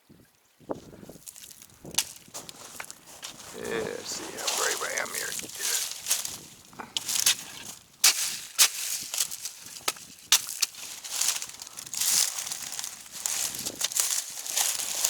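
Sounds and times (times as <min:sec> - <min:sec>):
footsteps crunching dry leaves: 0:01.1 - 0:15.0.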